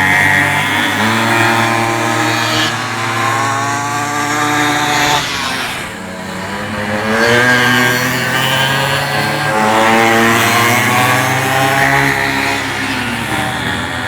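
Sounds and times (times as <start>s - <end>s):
small two-stroke bikes racing past: 0.0s - 14.0s.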